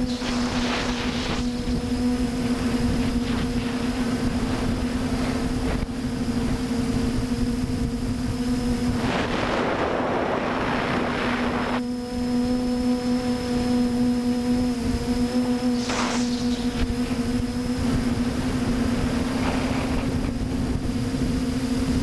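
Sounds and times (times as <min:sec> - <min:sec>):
quadcopter motors humming: 0:00.0 - 0:22.0
wind rushing over microphone: 0:00.0 - 0:22.0.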